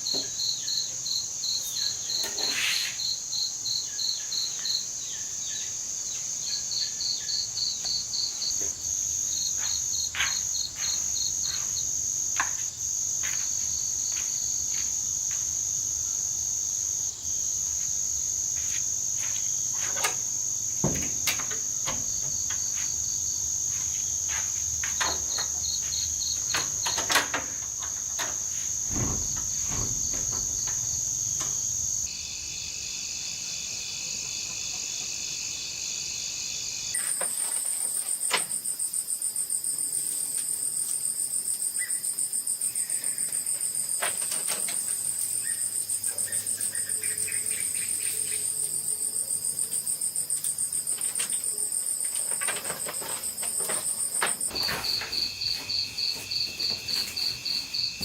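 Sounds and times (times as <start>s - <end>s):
insects chirping in pulses: 0.0s - 58.0s
insects trilling high: 0.0s - 58.0s
lower insect chirping: 0.0s - 58.0s.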